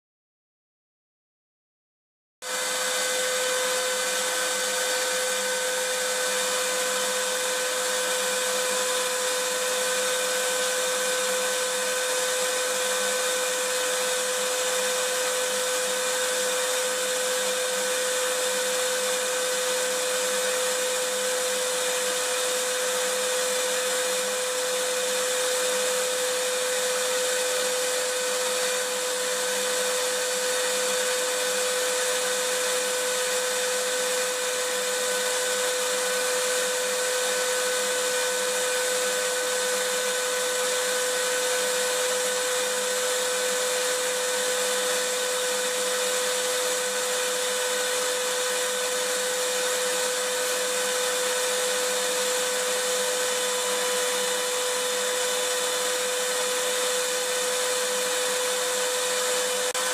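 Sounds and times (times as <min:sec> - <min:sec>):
vacuum cleaner running: 0:02.4 - 0:59.9.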